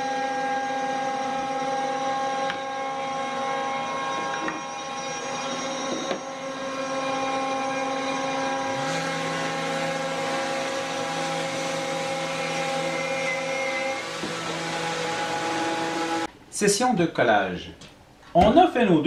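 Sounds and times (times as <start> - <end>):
orbital sander on wood: 0.0 - 16.3
shop machine humming: 0.1 - 16.3.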